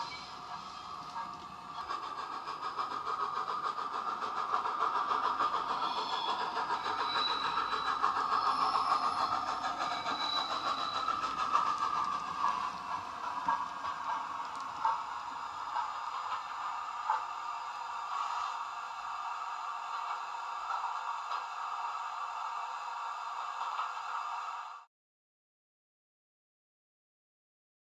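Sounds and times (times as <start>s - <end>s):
steam engine chuffing through speaker: 0.0s - 24.6s
model train wheels on track: 0.0s - 24.9s.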